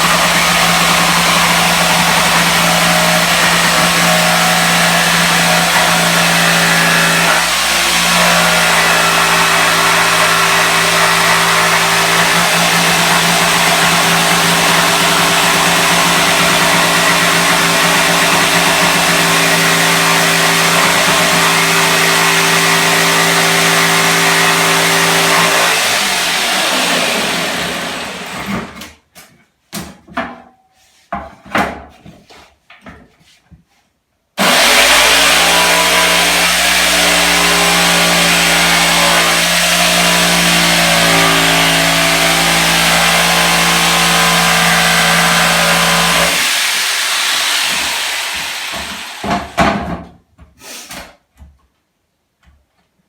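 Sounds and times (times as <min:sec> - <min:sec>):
electric jigsaw cutting wood: 0:00.0 - 0:28.8, 0:34.4 - 0:49.8.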